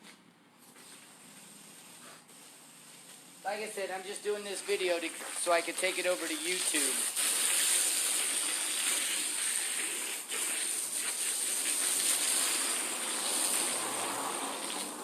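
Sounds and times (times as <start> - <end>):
hose spraying water on mat: 0.8 - 15.0.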